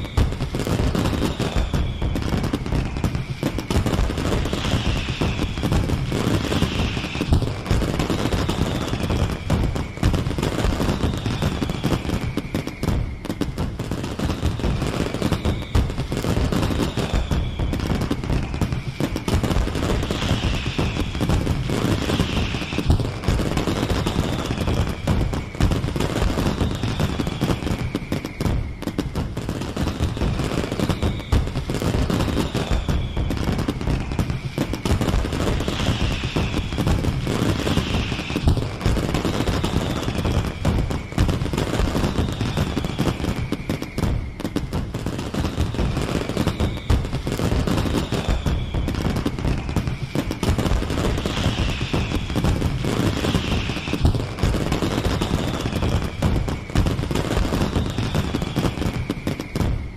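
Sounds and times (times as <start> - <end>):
fireworks bangs and crackles: 0.0 - 59.9
high falling whistle tone: 0.0 - 59.9.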